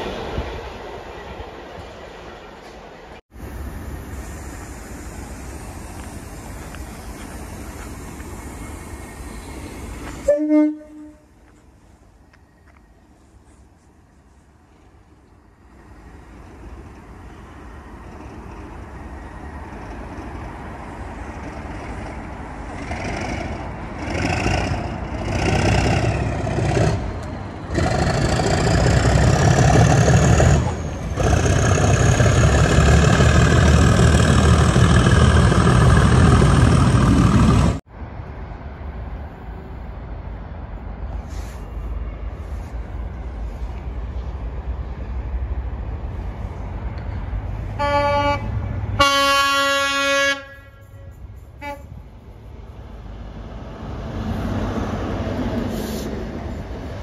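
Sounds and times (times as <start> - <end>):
distant train rumble: 0.0 - 57.0
train rumbling past with whine: 0.0 - 57.0.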